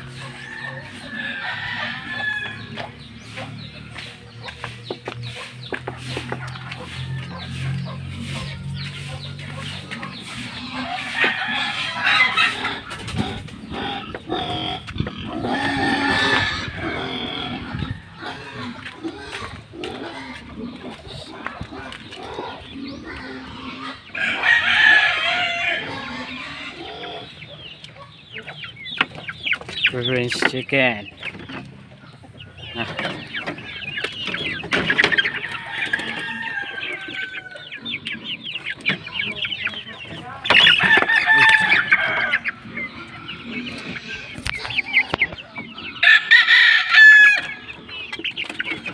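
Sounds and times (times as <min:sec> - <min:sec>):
chickens chirping: 0:00.0 - 0:48.9
farm animals calling: 0:00.0 - 0:48.9.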